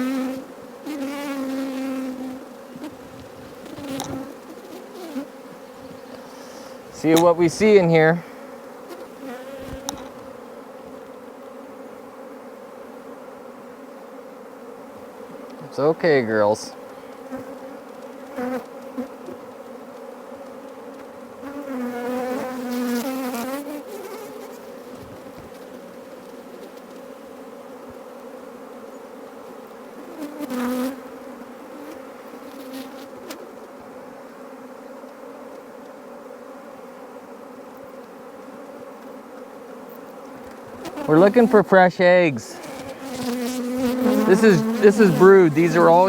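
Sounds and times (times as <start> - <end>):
single bee flying past: 0.0 - 15.6, 16.8 - 41.7, 42.5 - 46.0
bee colony buzzing: 0.0 - 46.0.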